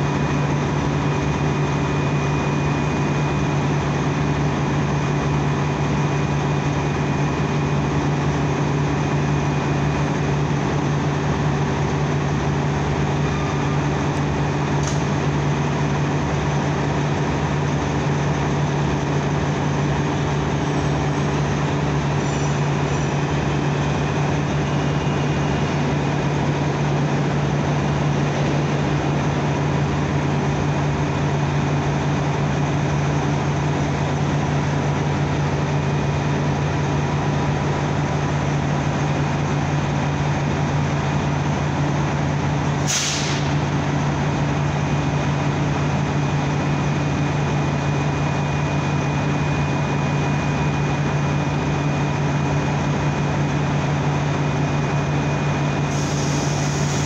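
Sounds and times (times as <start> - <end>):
train humming drone: 0.0 - 57.0.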